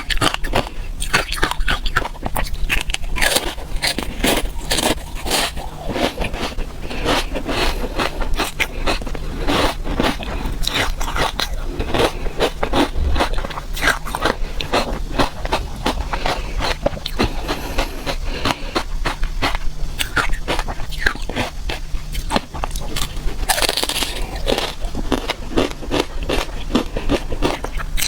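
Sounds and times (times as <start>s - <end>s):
ice being bitten and crunched: 0.0s - 28.0s.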